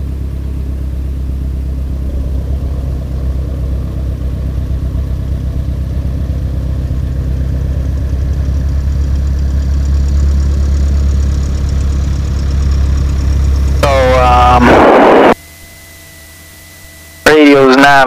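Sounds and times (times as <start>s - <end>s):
small plane engine droning: 0.0s - 18.0s.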